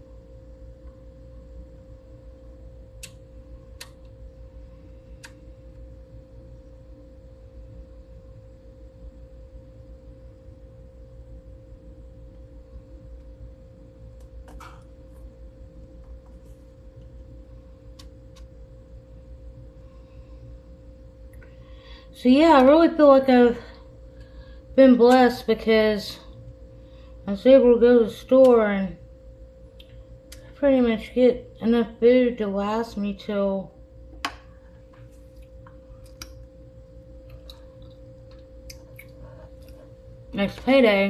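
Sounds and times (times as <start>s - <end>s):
low kitchen hum: 0.0s - 41.0s.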